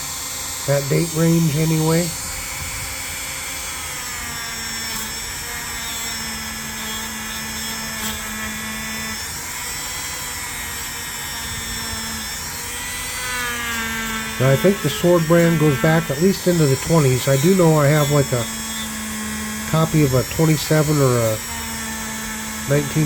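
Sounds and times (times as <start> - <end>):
rotary tool whining: 0.0 - 23.0.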